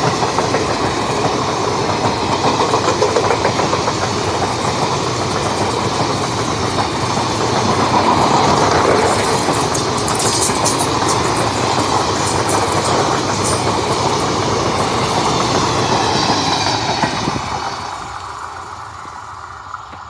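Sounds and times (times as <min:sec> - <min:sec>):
train wheels clattering over rail joints: 0:00.0 - 0:20.0.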